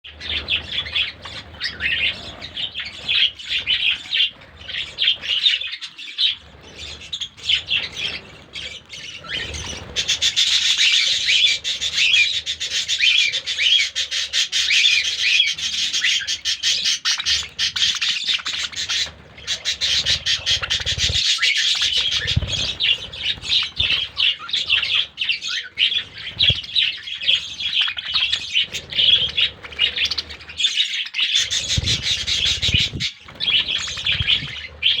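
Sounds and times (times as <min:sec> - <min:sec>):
flock of birds chirping: 0:00.0 - 0:35.0.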